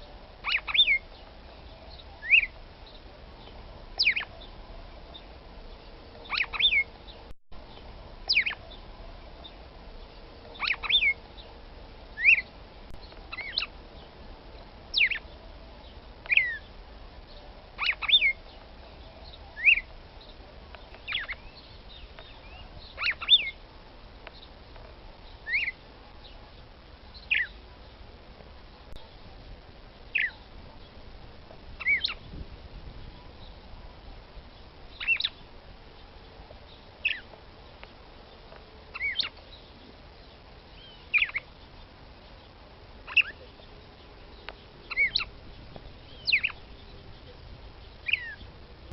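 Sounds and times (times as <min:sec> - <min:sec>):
bird chirping: 0:00.4 - 0:14.3, 0:14.9 - 0:28.1, 0:28.7 - 0:48.7.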